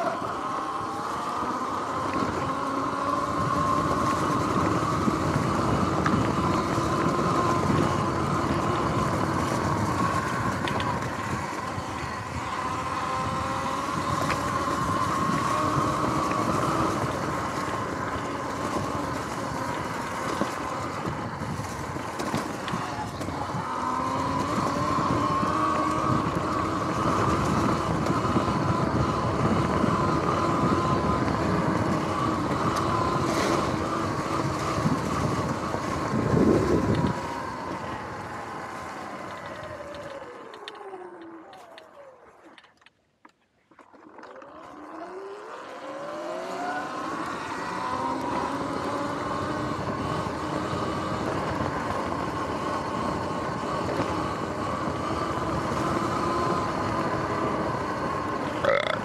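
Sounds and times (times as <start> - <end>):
tyres rumbling on rough ground: 0.0 - 42.9, 43.8 - 59.0
electric dirt bike motor whining: 0.0 - 43.0, 43.7 - 59.0.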